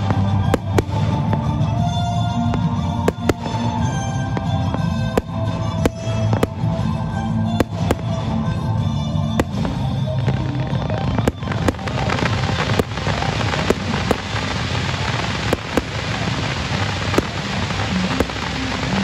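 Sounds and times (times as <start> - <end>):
firework shells bursting: 0.0 - 19.0
music with low held notes: 0.0 - 19.0.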